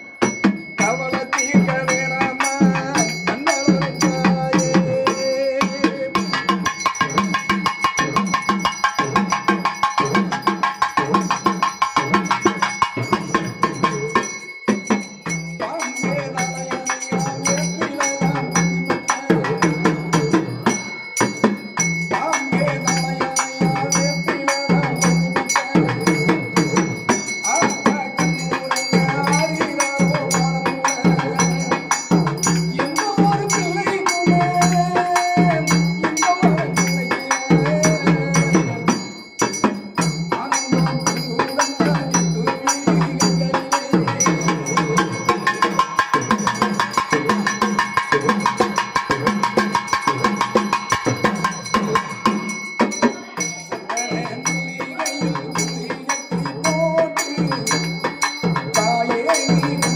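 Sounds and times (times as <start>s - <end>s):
steady drum beat: 0.0s - 59.9s
man singing into a microphone: 0.7s - 52.4s, 53.0s - 59.9s.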